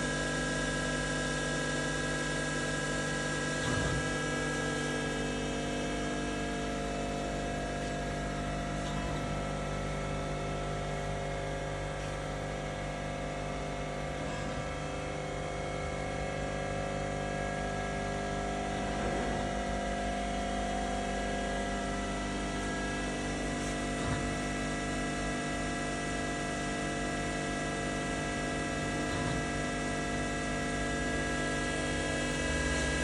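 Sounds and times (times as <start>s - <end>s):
machine hum and whine: 0.0s - 33.0s.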